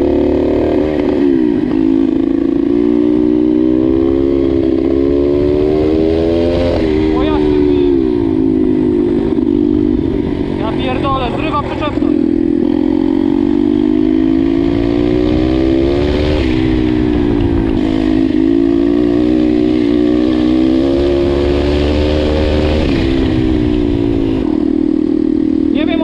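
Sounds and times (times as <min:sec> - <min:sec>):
pit bike engine revving: 0:00.0 - 0:26.0.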